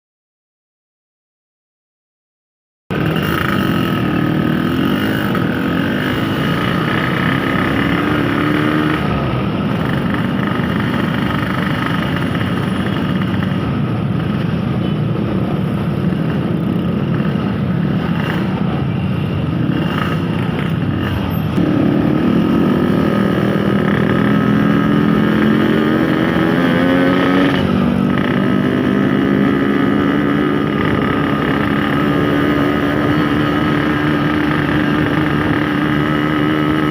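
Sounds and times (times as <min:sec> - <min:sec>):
two-stroke motorcycle engine revving: 0:02.9 - 0:14.6, 0:15.4 - 0:36.9.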